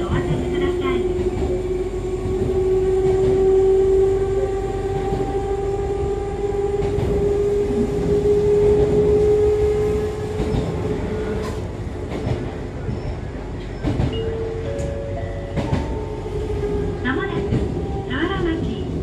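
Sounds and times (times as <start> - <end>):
wheels rumbling on track: 0.0 - 19.0.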